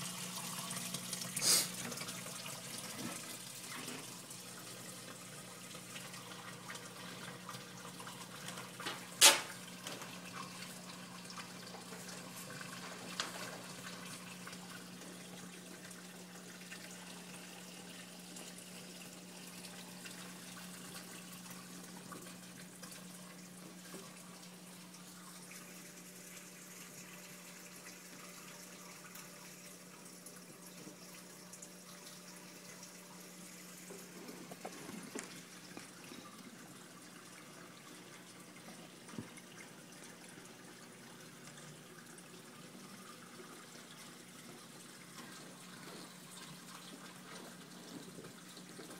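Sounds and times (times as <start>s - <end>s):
water trickling: 0.0s - 48.9s.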